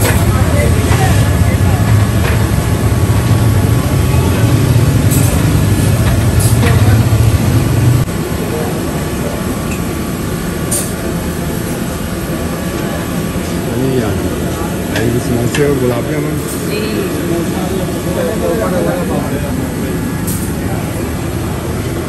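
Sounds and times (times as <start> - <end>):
low rumbling hum: 0.0 - 22.0.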